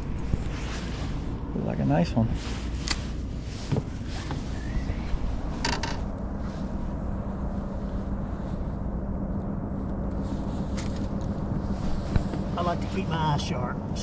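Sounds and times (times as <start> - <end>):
boat motor humming: 0.0 - 2.0, 2.6 - 14.0.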